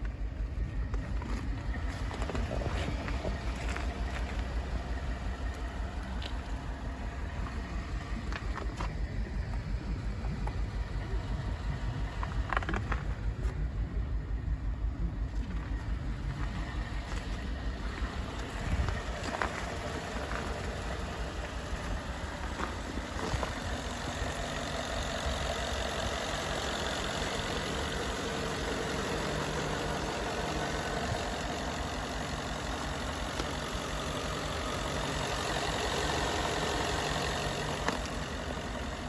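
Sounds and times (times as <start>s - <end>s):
pickup engine idling: 0.0s - 39.0s.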